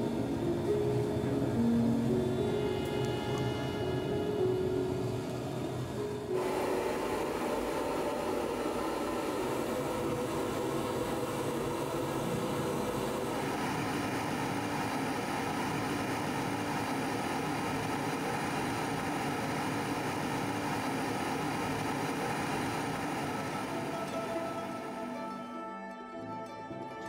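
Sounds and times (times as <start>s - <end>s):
kiln roaring: 0.0s - 25.3s.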